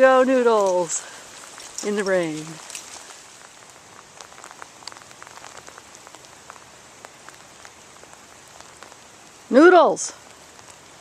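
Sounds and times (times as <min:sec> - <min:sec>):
light rain hissing: 0:00.0 - 0:11.0
raindrops ticking: 0:00.0 - 0:11.0.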